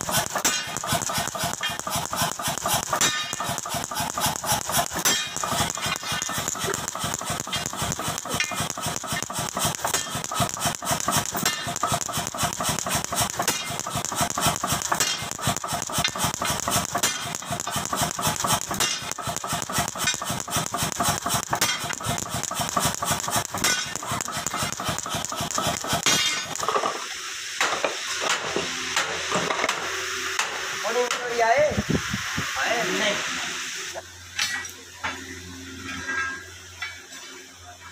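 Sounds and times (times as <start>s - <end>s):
power hammer metallic blows: 0.0s - 27.0s, 27.6s - 31.2s.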